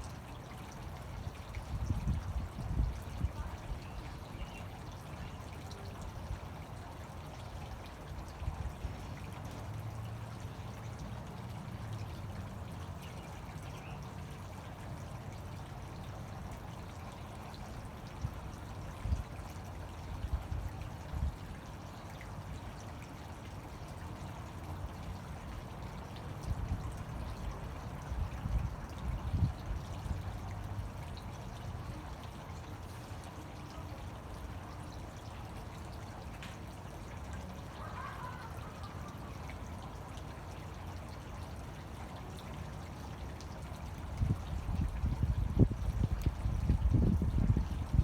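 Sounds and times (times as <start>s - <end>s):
fountain water splashing: 0.0s - 48.0s.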